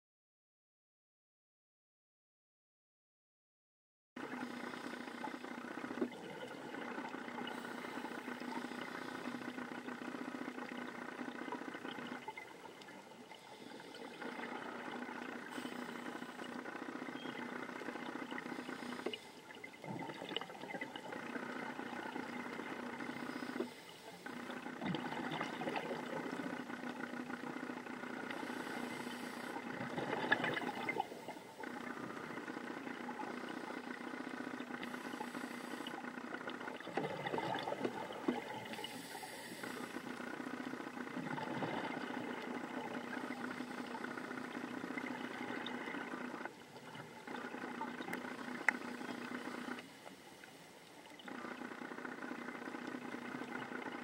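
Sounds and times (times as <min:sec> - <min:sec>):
steady mechanical hum: 0:04.2 - 0:54.0
underwater exhaled bubbles: 0:04.2 - 0:54.0.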